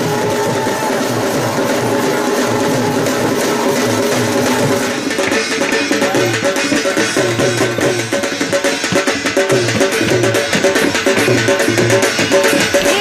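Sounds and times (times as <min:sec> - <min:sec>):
background music with drums: 0:00.0 - 0:13.0.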